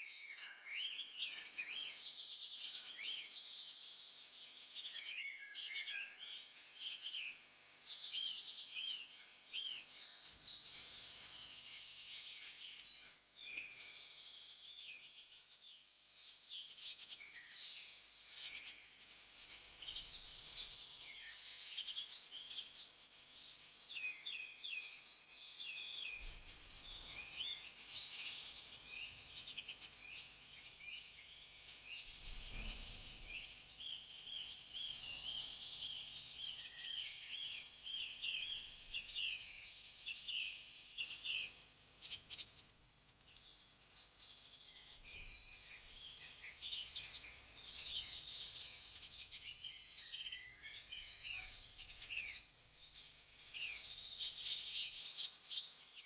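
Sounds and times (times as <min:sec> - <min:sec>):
many birds chirping: 0:00.0 - 0:56.0.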